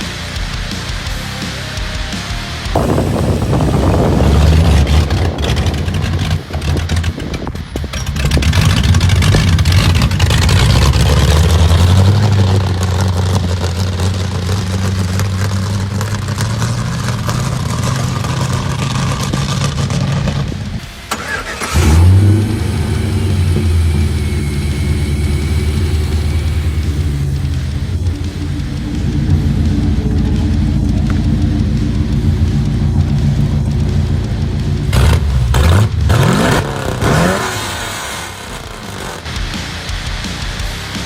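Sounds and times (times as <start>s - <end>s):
car engine starting and revving: 2.6s - 41.0s.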